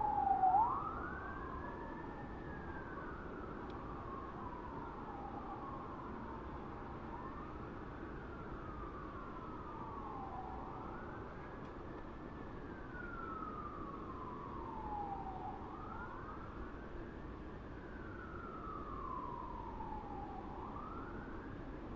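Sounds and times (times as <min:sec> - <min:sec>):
distant fire truck siren wailing: 0:00.0 - 0:11.6, 0:12.4 - 0:16.6, 0:17.7 - 0:21.6.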